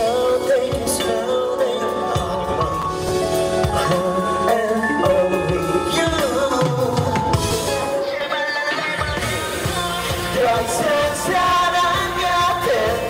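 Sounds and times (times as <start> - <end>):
backing music with drum beat: 0.0 - 13.0
man singing into microphone: 0.0 - 13.0.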